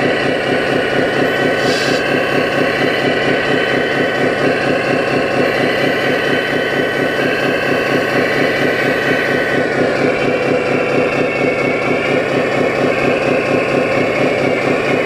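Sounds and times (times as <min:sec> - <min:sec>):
simulated diesel engine running: 0:00.0 - 0:15.0
steady high whine: 0:00.0 - 0:15.0.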